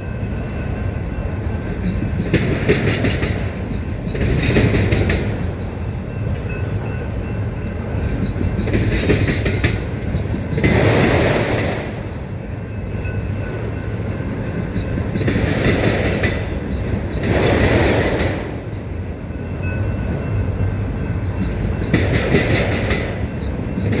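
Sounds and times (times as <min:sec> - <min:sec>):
freight cars rumbling: 0:00.0 - 0:24.0
wheels clicking over rail joints: 0:00.4 - 0:24.0.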